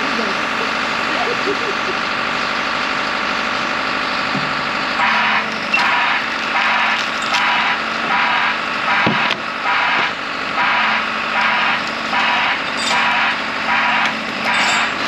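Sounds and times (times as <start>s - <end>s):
heavy machinery running: 0.0s - 15.0s
pulsing rasping noise: 0.0s - 15.0s.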